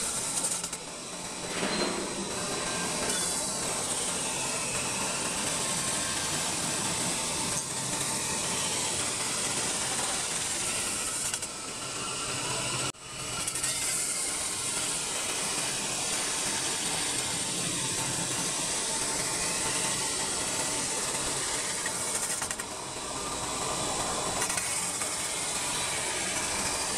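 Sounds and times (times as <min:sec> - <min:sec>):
mechanical hum: 0:00.0 - 0:26.9.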